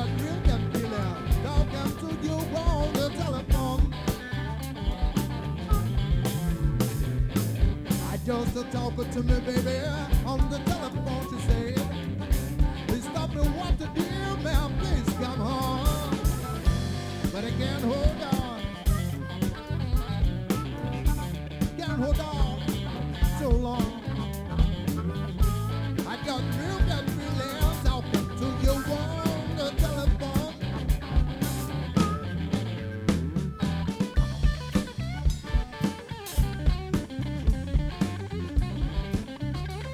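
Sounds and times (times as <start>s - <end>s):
bass guitar: 0.0s - 39.9s
lead guitar bending notes: 0.0s - 39.9s
steady drum beat: 0.0s - 39.9s.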